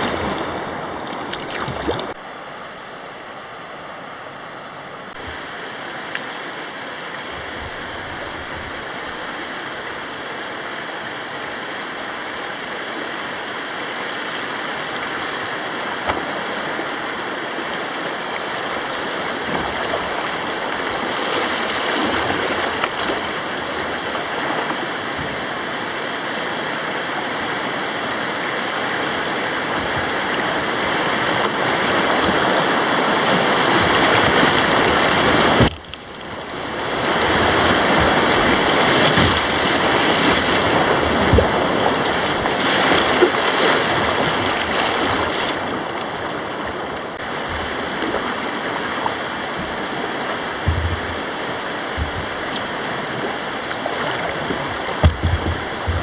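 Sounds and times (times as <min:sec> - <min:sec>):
river rapids rushing: 0:05.1 - 0:56.0.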